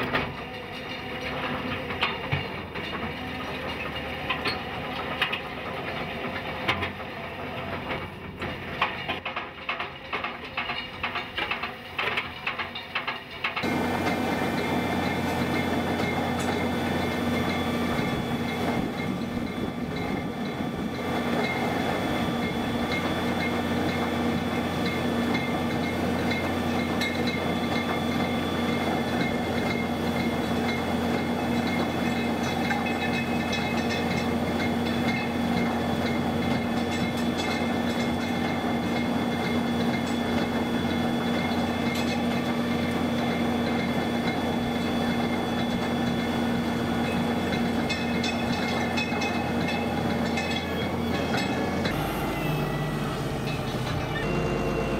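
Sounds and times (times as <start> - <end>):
engine and hydraulics humming: 0.0 - 54.9.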